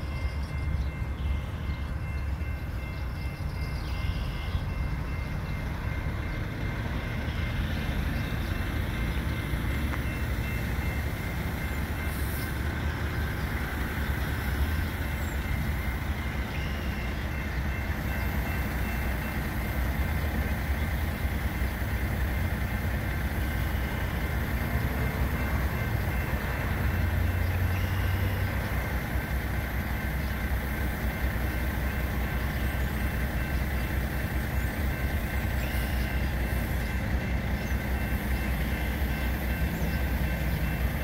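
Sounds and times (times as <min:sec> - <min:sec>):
train rumble: 0:00.0 - 0:41.0.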